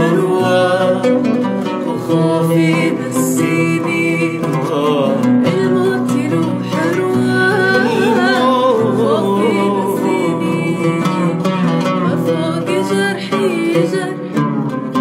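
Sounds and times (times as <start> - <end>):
plucked oud: 0.0 - 15.0
woman singing: 0.0 - 15.0.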